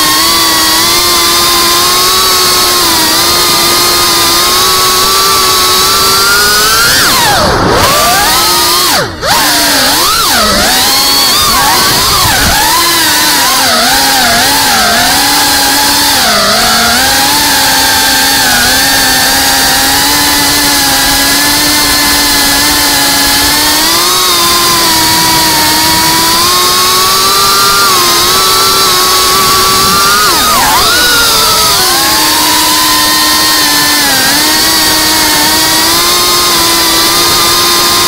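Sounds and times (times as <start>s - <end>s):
drone propellers buzzing: 0.0s - 38.0s.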